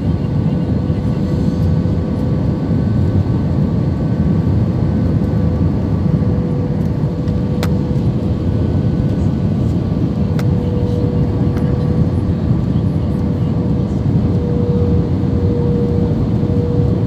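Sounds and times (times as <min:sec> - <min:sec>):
airliner engine rumble: 0:00.0 - 0:17.0
constant hum: 0:00.0 - 0:17.0.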